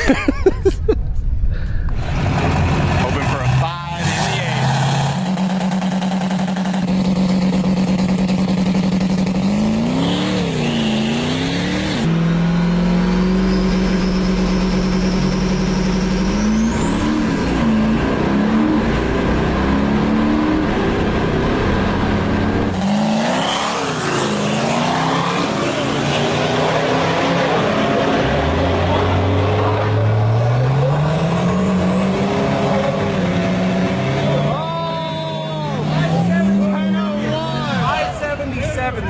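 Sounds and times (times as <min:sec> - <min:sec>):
turbocharger whine: 0:01.0 - 0:36.8
diesel truck engine revving: 0:01.9 - 0:38.4.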